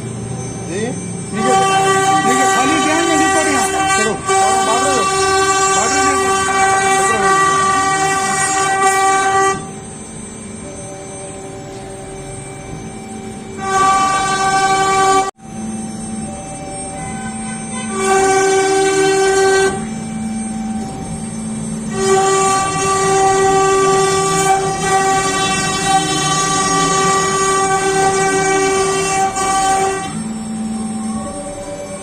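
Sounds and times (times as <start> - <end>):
cnc router whine: 0.0 - 32.0.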